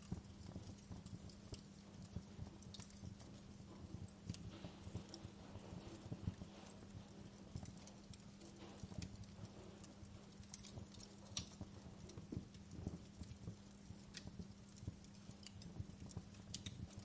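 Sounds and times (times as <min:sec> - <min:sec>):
wood fire popping and snapping: 0:00.0 - 0:17.0.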